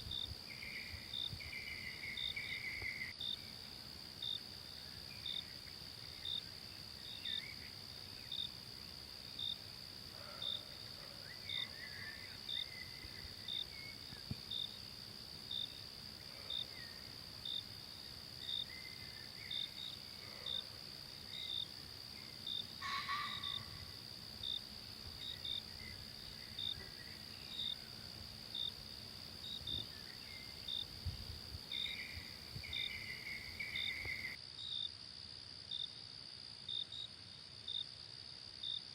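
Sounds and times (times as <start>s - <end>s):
cricket chirping: 0.0s - 38.9s
insects droning: 0.0s - 38.9s.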